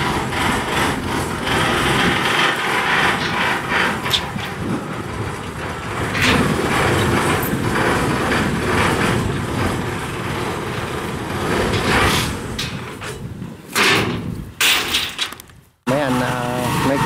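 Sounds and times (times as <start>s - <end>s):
boat engine rumbling: 0.0s - 14.6s.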